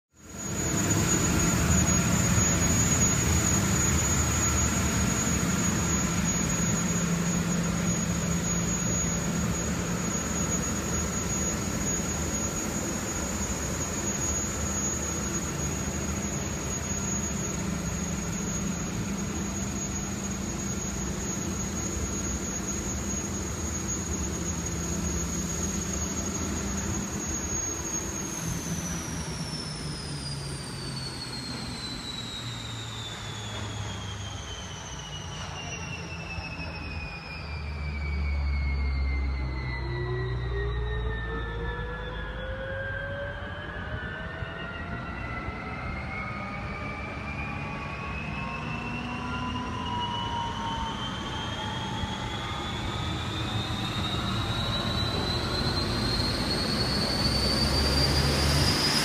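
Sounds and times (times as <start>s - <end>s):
gas turbine whining: 0.2s - 59.0s.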